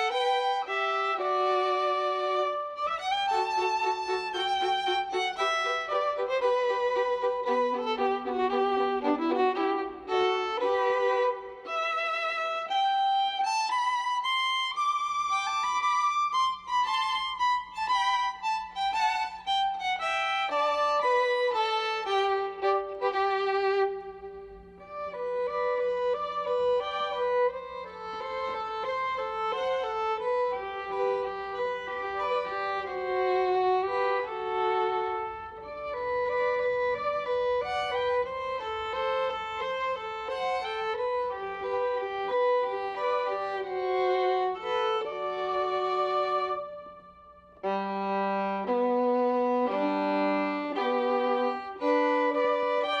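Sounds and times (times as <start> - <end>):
slow violin melody: 0.0 - 53.0.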